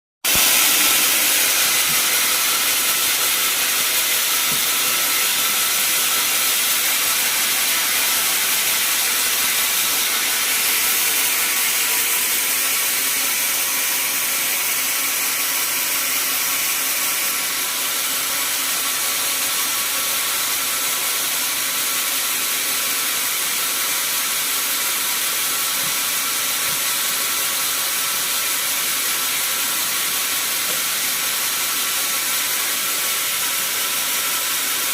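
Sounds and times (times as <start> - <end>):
sawmill saw hissing: 0.2 - 34.9.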